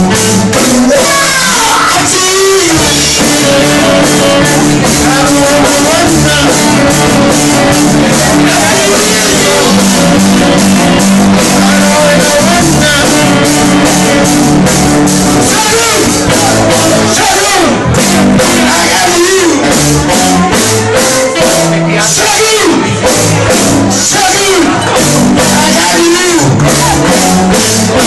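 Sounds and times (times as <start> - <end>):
person singing: 0.0 - 28.0
rock band playing: 0.0 - 28.0.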